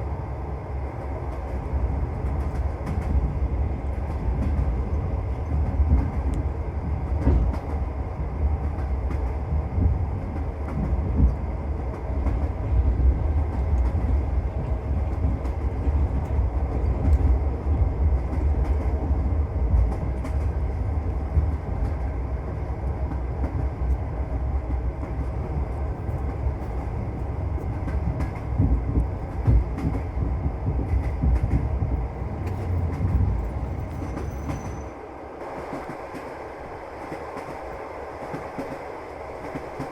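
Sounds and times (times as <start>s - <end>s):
train wheels rumbling on rails: 0.0s - 39.9s
rail joint clicks and knocks: 1.0s - 36.4s, 37.0s - 39.9s.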